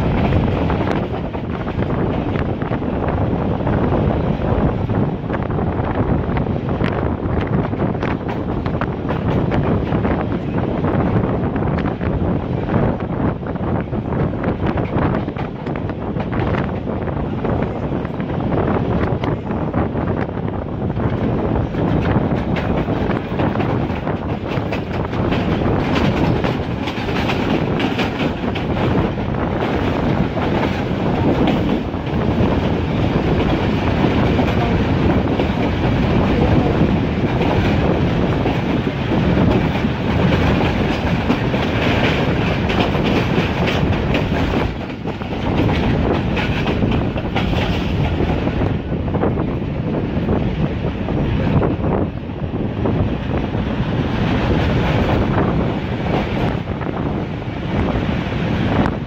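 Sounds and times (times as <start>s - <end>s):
train wheels clattering over rails: 0.0s - 52.1s
continuous train rumble: 0.0s - 59.0s.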